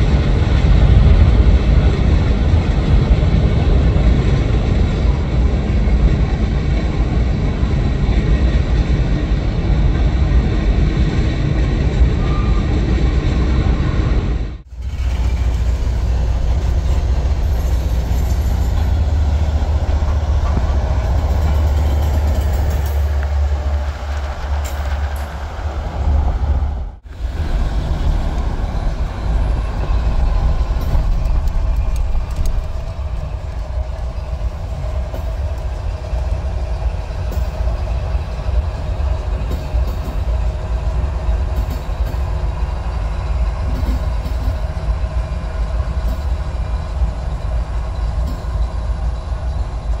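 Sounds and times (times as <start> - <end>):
freight train passing: 0.0 - 50.0.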